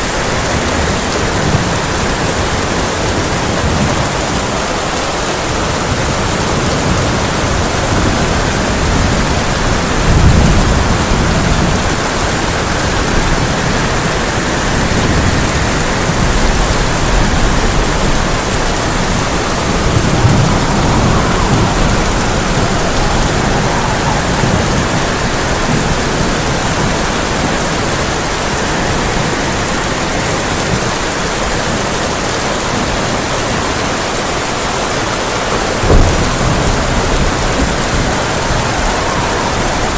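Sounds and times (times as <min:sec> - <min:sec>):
thunder rumbling: 0:00.0 - 0:33.8, 0:34.9 - 0:39.9
rain on a tin roof: 0:00.0 - 0:39.9.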